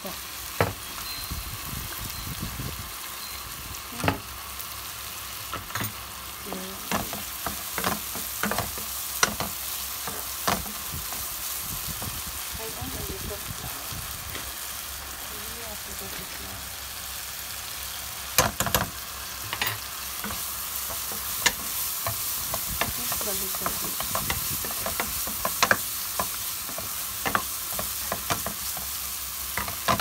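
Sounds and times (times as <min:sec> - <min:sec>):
mushrooms sizzling in a pan: 0:00.0 - 0:30.0.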